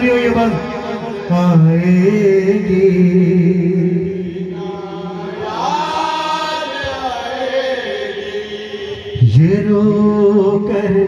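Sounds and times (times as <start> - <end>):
men chanting without instruments: 0.0 - 11.0.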